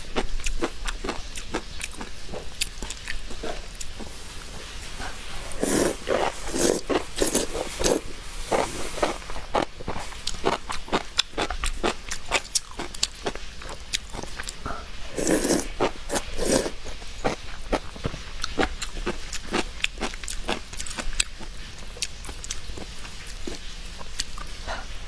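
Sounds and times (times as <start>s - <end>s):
chewing crisp food: 0.0s - 25.0s.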